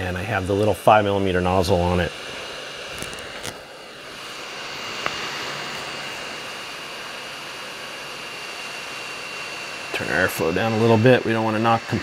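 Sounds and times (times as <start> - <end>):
hot air station hissing: 0.0 - 12.0.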